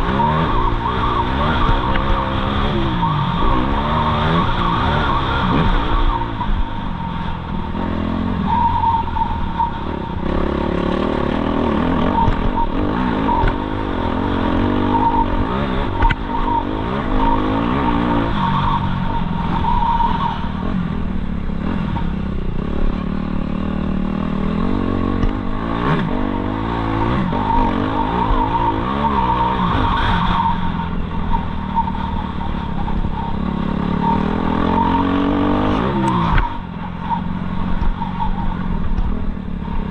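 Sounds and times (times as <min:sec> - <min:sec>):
motocross bike engine revving: 0:00.0 - 0:19.8, 0:20.4 - 0:39.9.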